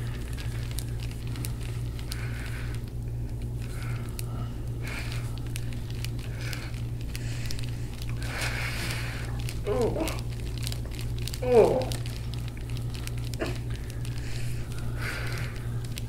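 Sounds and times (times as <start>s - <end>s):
crackles and rubbing on skin: 0.0s - 16.0s
steady low hum: 0.0s - 16.0s.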